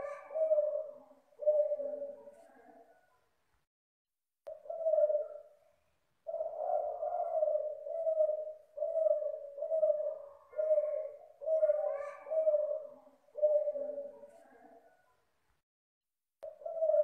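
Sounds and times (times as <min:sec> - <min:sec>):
dove cooing: 0:00.0 - 0:03.1, 0:04.5 - 0:15.0, 0:16.4 - 0:17.0.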